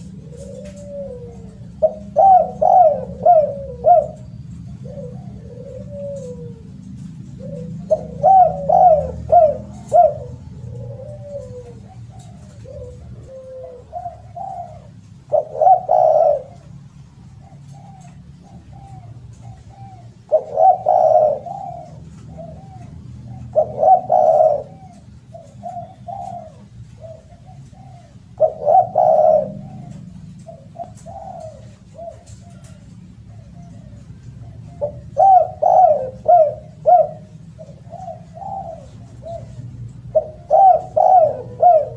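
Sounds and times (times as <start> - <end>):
dove cooing: 0.0 - 41.9
steady low hum: 0.0 - 41.9.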